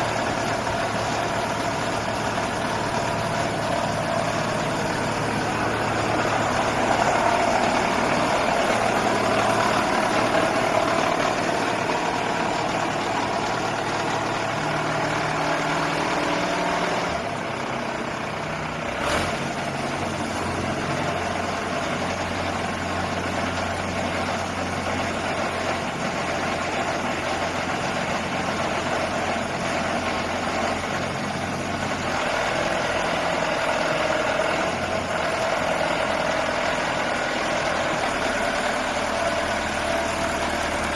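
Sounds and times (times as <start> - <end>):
drilling rig engine running: 0.0 - 40.9.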